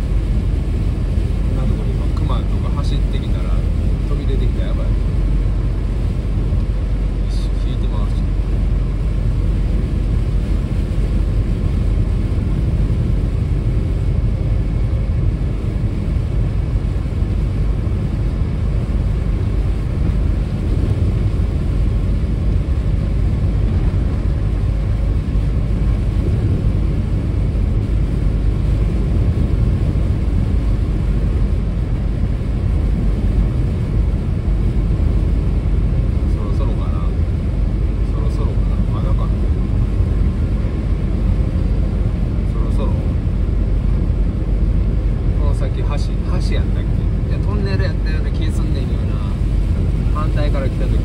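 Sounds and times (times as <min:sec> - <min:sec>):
car road noise in rain: 0:00.0 - 0:51.0.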